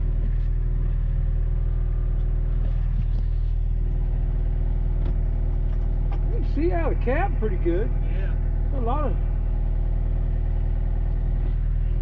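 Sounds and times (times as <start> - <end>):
diesel excavator engine idling: 0.0 - 12.0.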